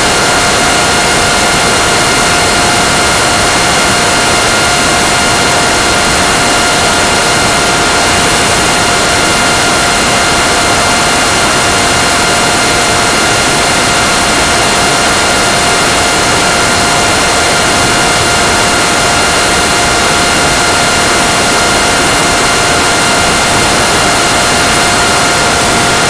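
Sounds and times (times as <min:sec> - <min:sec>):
motor whine: 0:00.0 - 0:26.0.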